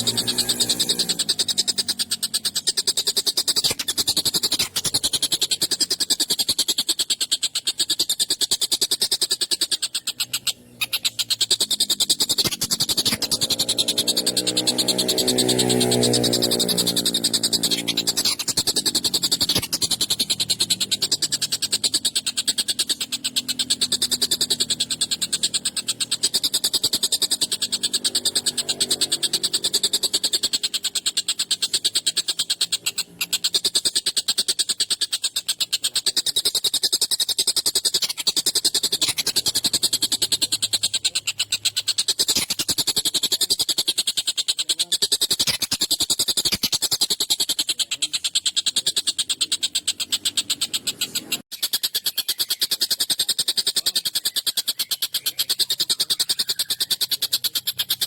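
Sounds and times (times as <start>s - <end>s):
kingfisher harsh rattling call: 0.0s - 58.0s.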